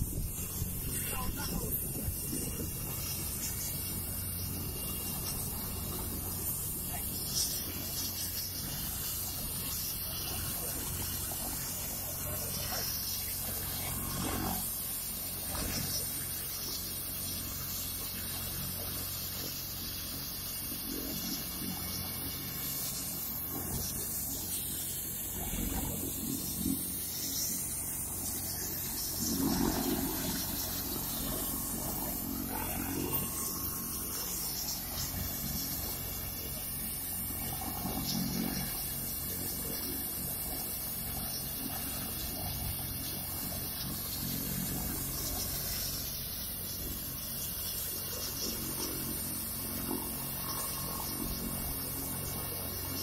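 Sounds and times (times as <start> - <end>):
helicopter turbines running: 0.0 - 53.0
low hum and hiss: 0.0 - 53.0.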